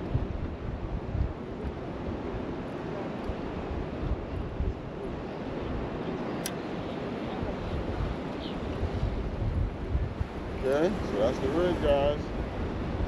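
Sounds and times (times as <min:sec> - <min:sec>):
ocean surf: 0:00.0 - 0:13.0
wind gusting on microphone: 0:00.0 - 0:13.0.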